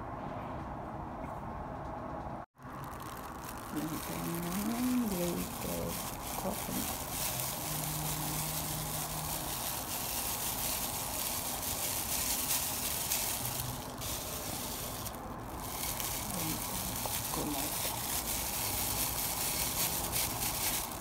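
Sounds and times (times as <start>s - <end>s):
steady hissing: 2.8s - 21.0s.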